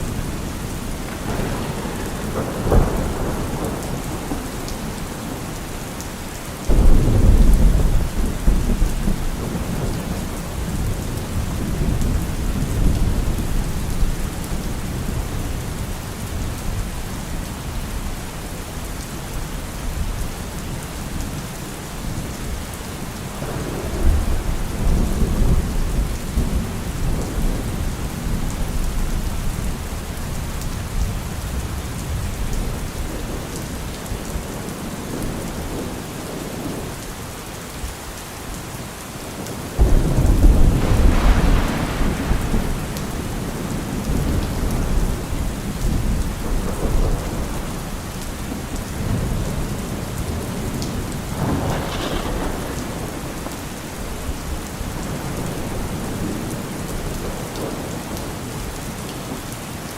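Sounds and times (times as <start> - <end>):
thunder rumble: 0.0 - 6.0, 6.7 - 17.0, 23.4 - 36.8, 39.8 - 58.3
heavy rain drumming on a car roof: 0.0 - 59.9.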